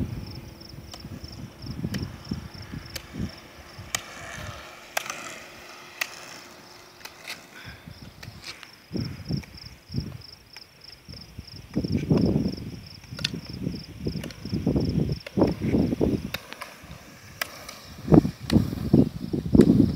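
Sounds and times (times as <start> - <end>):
low rumbling gusts: 0.0 - 10.3, 11.2 - 19.9
insect chirping: 0.0 - 19.6.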